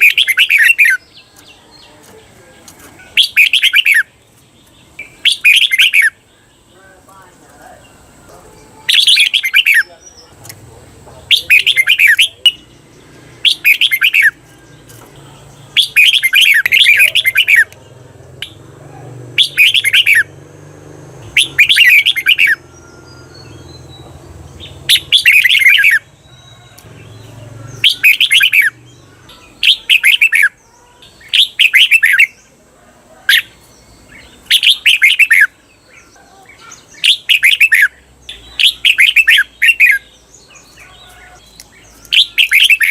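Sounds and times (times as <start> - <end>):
bird singing warbled phrases: 0.0 - 42.9.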